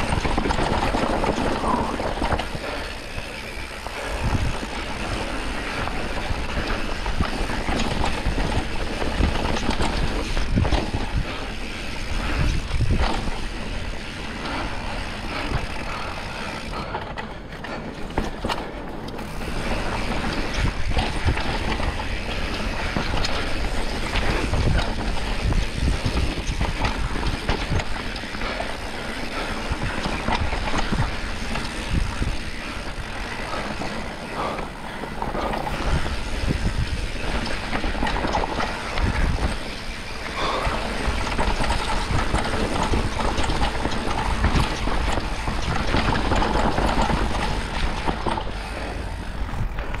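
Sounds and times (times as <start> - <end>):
bike rattling and knocking: 0.0 - 50.0
tyres rolling on dirt: 0.0 - 50.0
wind buffeting microphone: 0.0 - 50.0.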